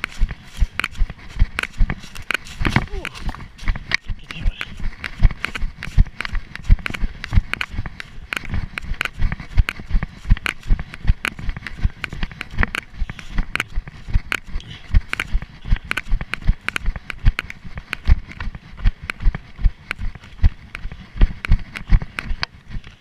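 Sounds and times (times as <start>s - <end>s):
running footsteps on dry leaves: 0.0s - 23.0s.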